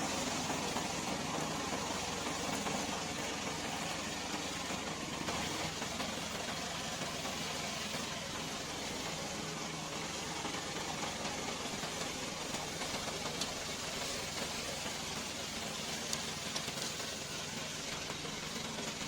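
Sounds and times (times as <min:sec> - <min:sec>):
lawn mower engine hum: 0:00.0 - 0:19.0.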